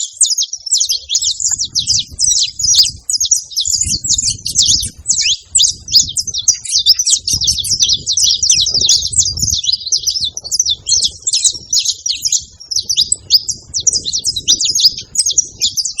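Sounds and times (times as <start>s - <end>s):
finch chirping and trilling: 0.0s - 16.0s.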